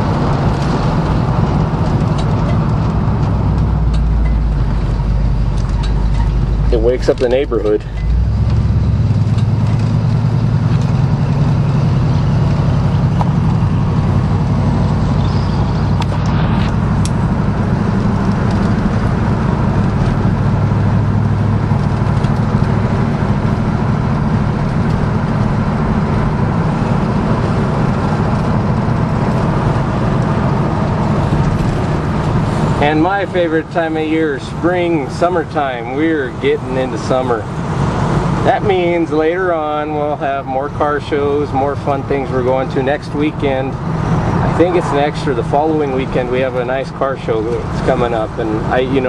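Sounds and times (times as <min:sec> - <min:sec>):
loud low exhaust note: 0:00.0 - 0:49.0
truck engine running: 0:00.0 - 0:49.0.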